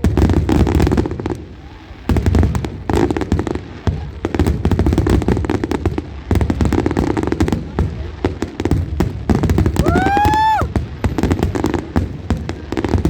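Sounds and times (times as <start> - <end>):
fireworks booming: 0.0 - 13.0
fireworks crackling pops: 0.0 - 13.0.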